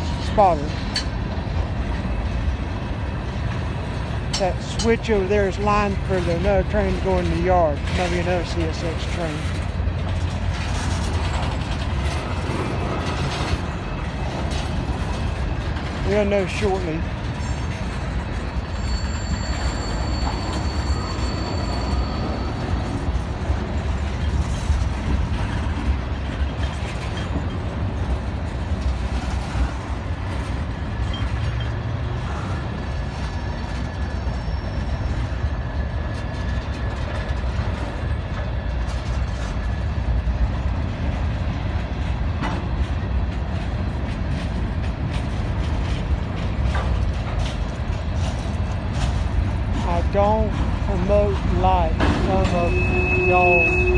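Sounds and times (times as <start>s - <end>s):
freight train wheels rumbling on rails: 0.0s - 53.9s.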